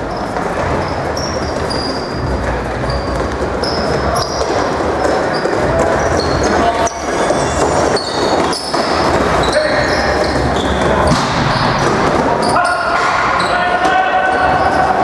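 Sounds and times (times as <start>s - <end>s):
shoes squeaking on hard floor: 0.0s - 15.0s.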